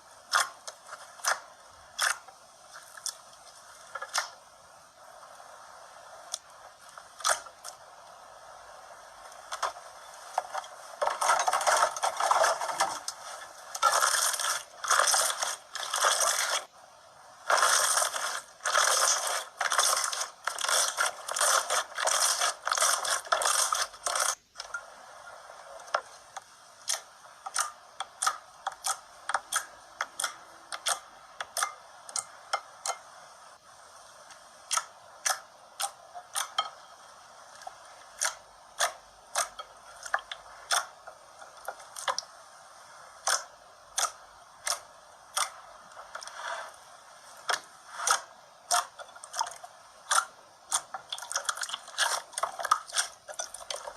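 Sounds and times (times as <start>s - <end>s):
slime squishing and crackling: 0.0s - 4.5s, 5.4s - 16.7s, 17.3s - 24.7s, 26.8s - 33.0s, 34.4s - 53.9s.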